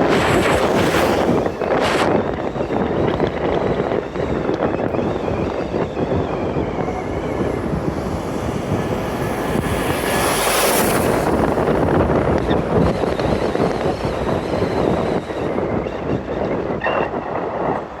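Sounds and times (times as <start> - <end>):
vehicle road and wind rumble: 0.0 - 18.0.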